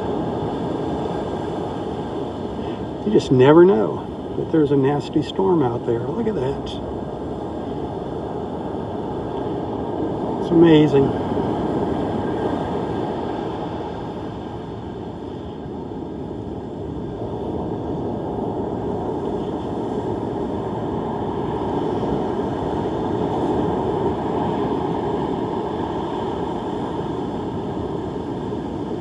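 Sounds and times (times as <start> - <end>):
rough surf rushing: 0.0 - 29.0
wind: 0.0 - 29.0.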